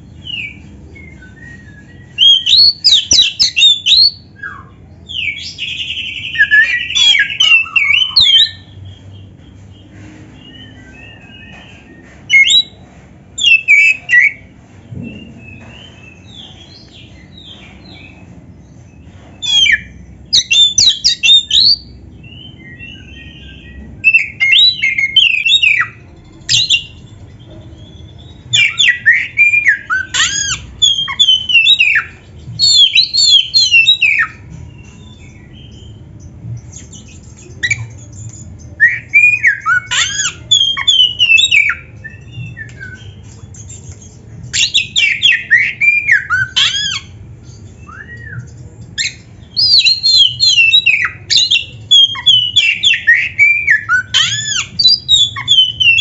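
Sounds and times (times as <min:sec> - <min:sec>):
magpie-robin singing whistles: 0:00.2 - 0:08.8, 0:10.5 - 0:12.8, 0:13.4 - 0:14.4, 0:19.4 - 0:27.0, 0:27.8 - 0:36.0, 0:36.7 - 0:56.0.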